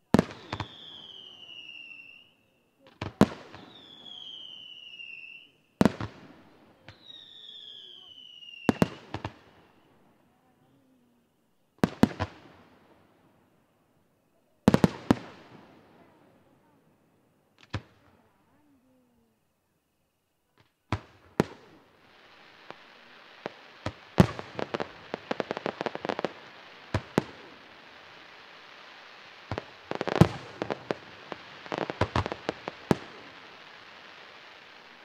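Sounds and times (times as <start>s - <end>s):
fireworks bursting: 0.0s - 10.2s, 11.8s - 13.1s, 14.6s - 16.8s, 17.6s - 18.6s, 20.6s - 35.0s
steady hiss: 0.0s - 35.0s.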